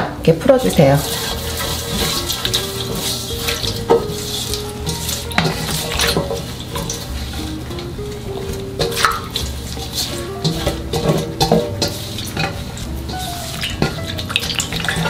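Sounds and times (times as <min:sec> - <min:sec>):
soft background music: 0:00.0 - 0:15.0
water swishing in a bowl: 0:00.4 - 0:15.0.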